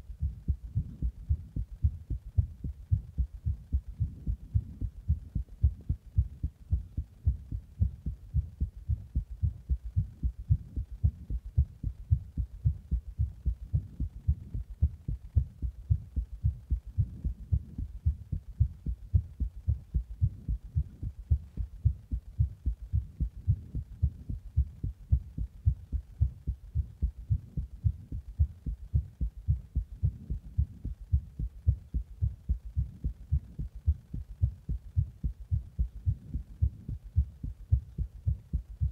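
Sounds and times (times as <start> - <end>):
heart beating: 0.0 - 38.9.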